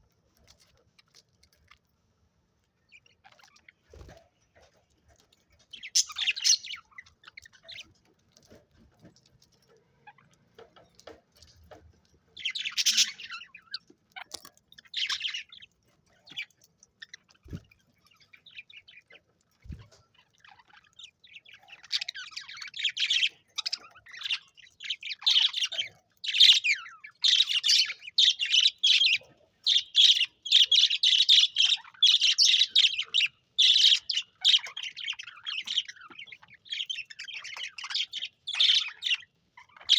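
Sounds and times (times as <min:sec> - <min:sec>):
budgerigars chirping and squawking: 0:02.8 - 0:39.9.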